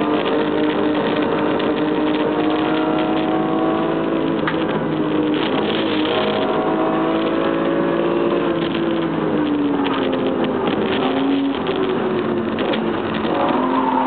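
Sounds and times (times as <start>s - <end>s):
race car engine: 0.0s - 14.0s
wind and road noise: 0.0s - 14.0s.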